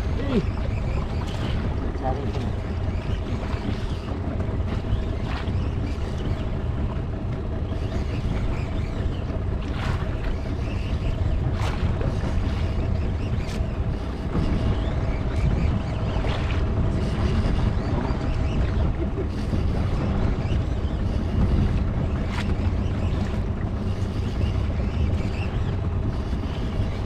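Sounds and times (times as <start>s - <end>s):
boat engine running: 0.0s - 27.0s
wind on microphone: 0.0s - 27.0s.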